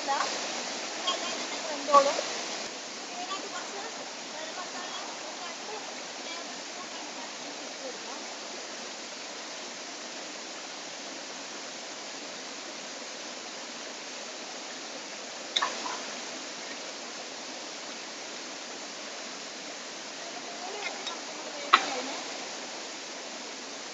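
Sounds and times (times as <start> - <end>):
stream rushing over rocks: 0.0 - 23.9.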